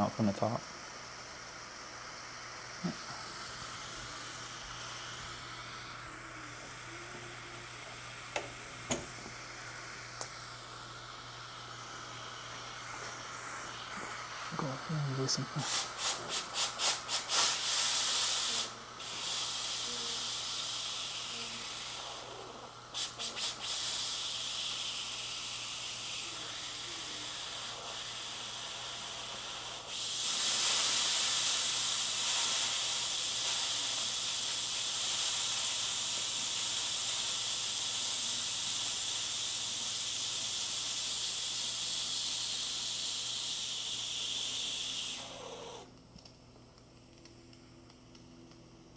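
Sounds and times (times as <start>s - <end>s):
steam cleaner hissing: 0.0s - 45.9s.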